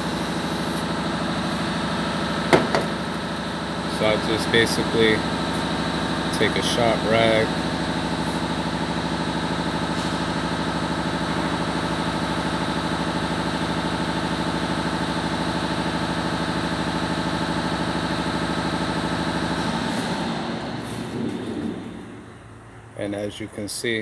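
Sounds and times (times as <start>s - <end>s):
engine running with even pulse: 0.0s - 23.9s.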